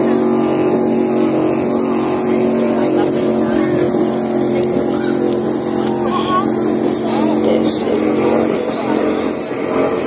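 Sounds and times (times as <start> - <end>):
powerboat engines droning: 0.0 - 10.0.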